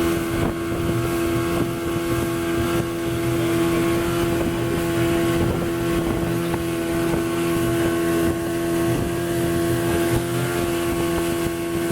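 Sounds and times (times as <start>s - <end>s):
motorboat engine running: 0.0s - 11.9s.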